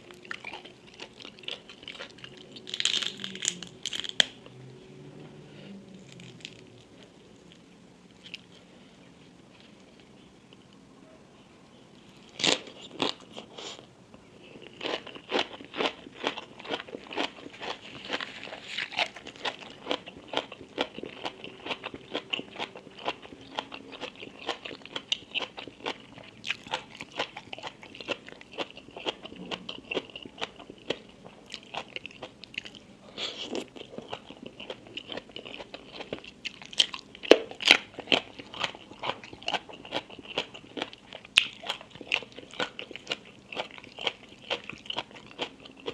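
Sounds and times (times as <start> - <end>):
crisp crunching and chewing: 0.0 - 4.5, 5.9 - 8.7, 14.5 - 45.9.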